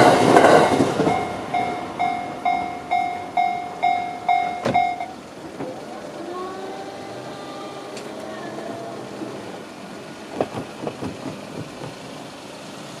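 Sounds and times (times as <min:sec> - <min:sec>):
electric train whine: 0:00.0 - 0:13.0.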